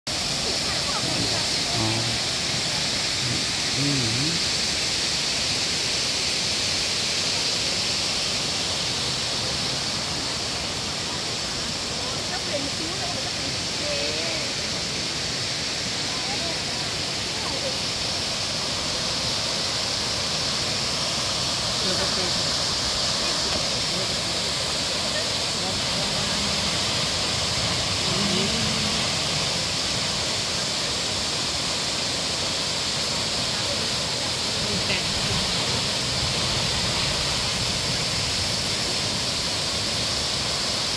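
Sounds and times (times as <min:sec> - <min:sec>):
water rushing over waterfall: 0:00.1 - 0:40.9.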